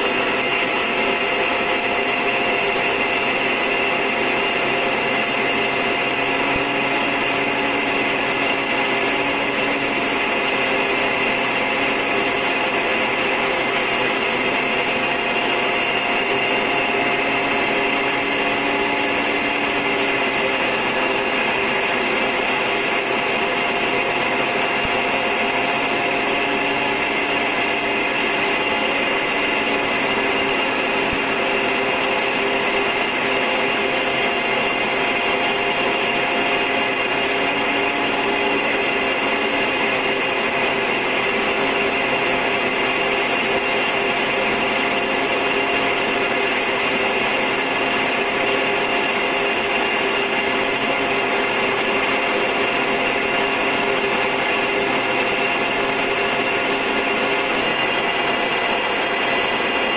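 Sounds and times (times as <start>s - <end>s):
turboprop engine drone: 0.0s - 59.9s.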